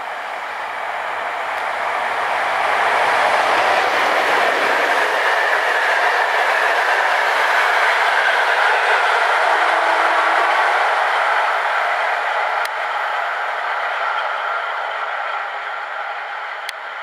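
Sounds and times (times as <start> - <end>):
train wheels rolling on rails: 0.0 - 17.0
clickety-clack of rail joints: 1.4 - 11.4, 12.4 - 17.0.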